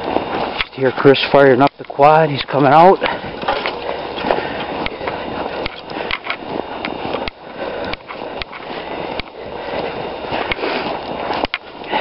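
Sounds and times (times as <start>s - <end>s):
footsteps through woodland brush: 0.0s - 12.0s.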